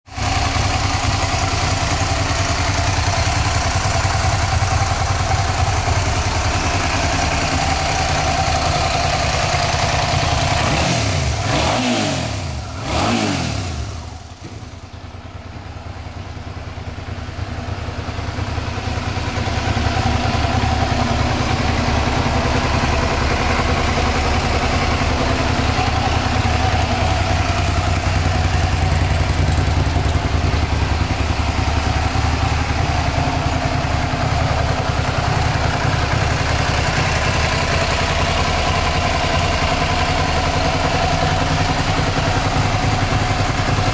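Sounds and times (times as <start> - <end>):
motorcycle engine idling: 0.1 - 43.9.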